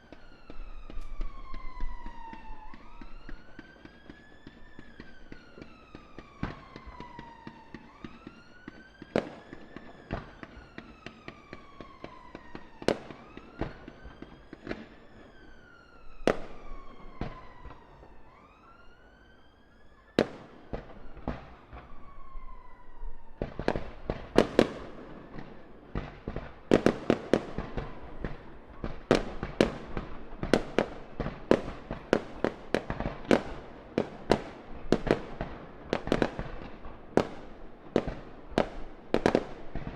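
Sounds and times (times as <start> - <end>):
fireworks exploding: 0.0 - 19.2, 20.1 - 39.9
emergency siren wailing: 0.0 - 39.9.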